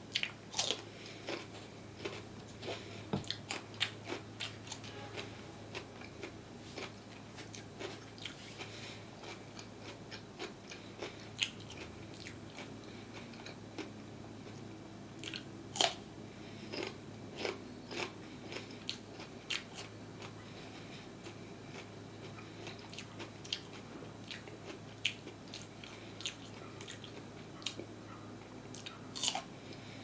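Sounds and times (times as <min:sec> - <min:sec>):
person chewing crisp food: 0:00.0 - 0:30.0.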